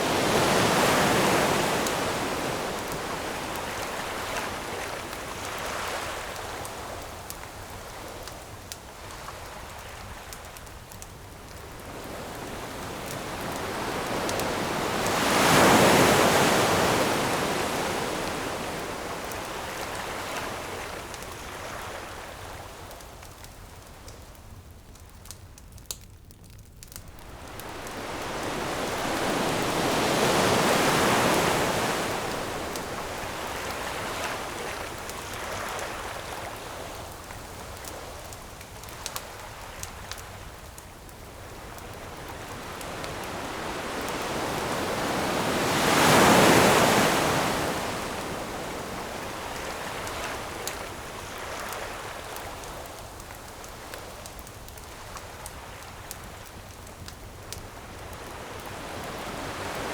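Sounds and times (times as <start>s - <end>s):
ocean waves washing ashore: 0.0s - 22.9s, 27.0s - 59.9s
campfire crackling: 0.0s - 59.9s.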